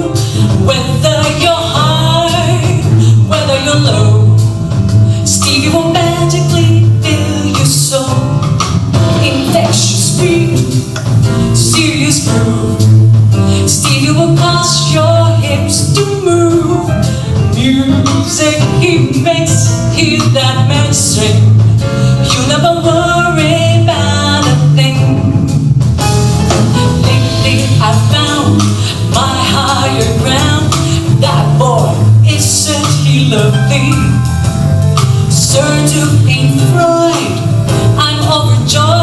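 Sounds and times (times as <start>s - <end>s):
woman singing into a microphone: 0.0s - 4.5s, 5.2s - 8.5s, 9.1s - 10.9s, 11.6s - 21.6s, 22.2s - 25.4s, 27.0s - 34.3s, 35.3s - 39.0s
electric bass guitar: 0.0s - 39.0s
live jazz band: 0.0s - 39.0s.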